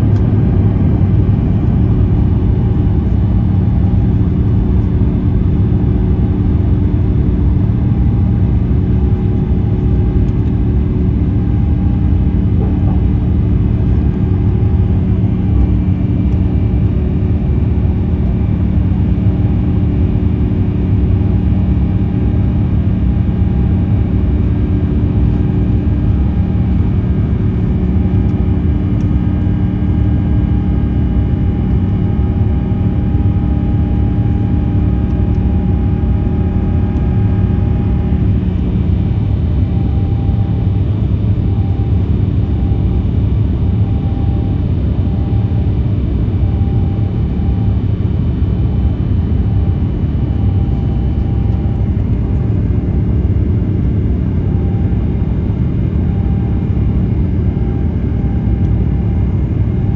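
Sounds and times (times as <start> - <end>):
aircraft cabin engine rumble: 0.0 - 59.9
steady hums: 0.0 - 59.9.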